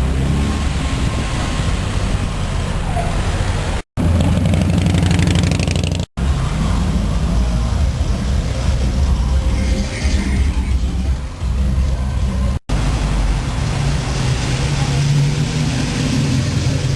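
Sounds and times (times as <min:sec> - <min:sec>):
old car engines passing: 0:00.0 - 0:16.9.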